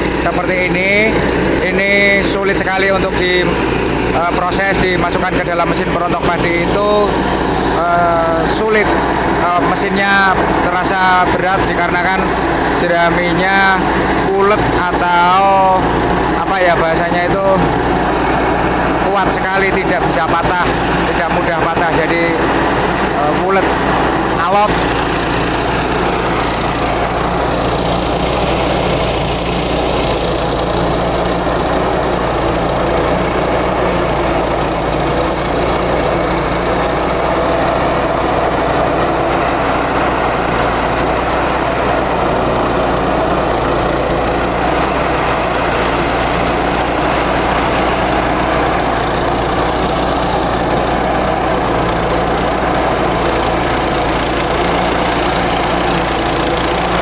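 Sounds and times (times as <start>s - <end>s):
rice thresher running: 0.0s - 57.0s.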